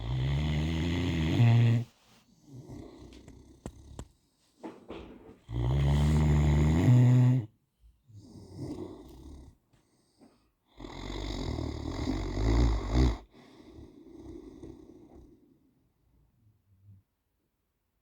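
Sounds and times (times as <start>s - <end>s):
dog snoring: 0.0s - 7.5s, 8.1s - 15.7s.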